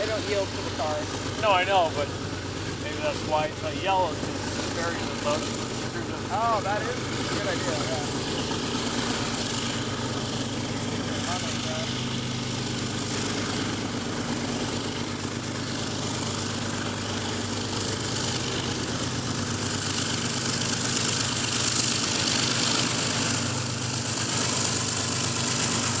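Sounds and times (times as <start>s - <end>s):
engine running with low hum: 0.0s - 26.0s.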